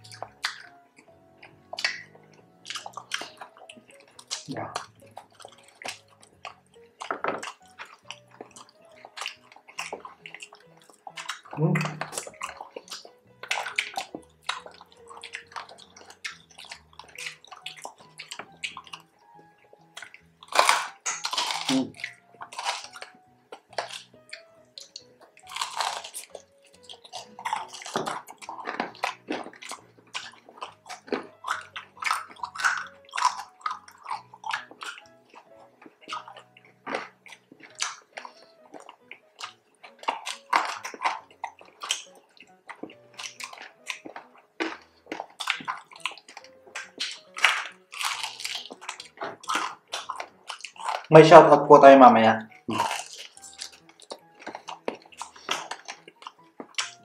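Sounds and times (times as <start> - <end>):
crunching and chewing: 0.0 - 57.0
quiet background music: 0.0 - 57.0.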